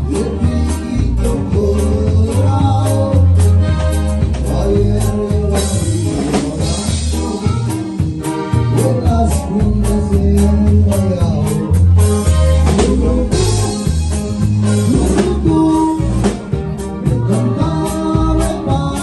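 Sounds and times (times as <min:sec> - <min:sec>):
person singing: 0:00.0 - 0:14.1, 0:14.7 - 0:19.0
accordion: 0:00.0 - 0:19.0
drum kit: 0:00.0 - 0:19.0
electric bass: 0:00.0 - 0:19.0.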